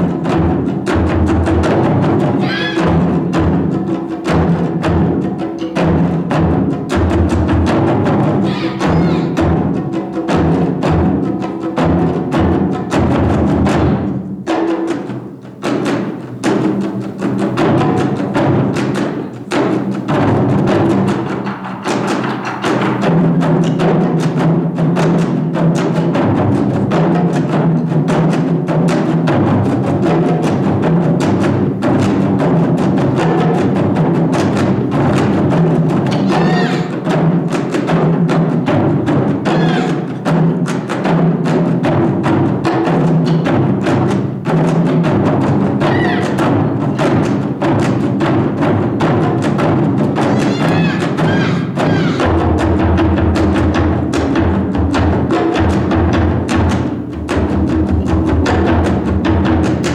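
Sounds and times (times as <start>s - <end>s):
taiko drum ensemble playing: 0.0s - 59.9s.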